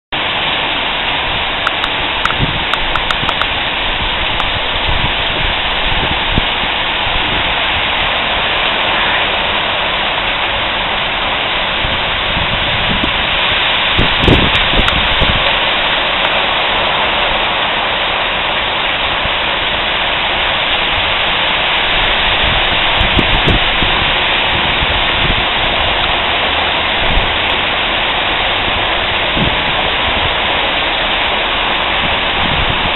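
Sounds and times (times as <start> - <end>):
heavy rain pouring: 0.1 - 32.9.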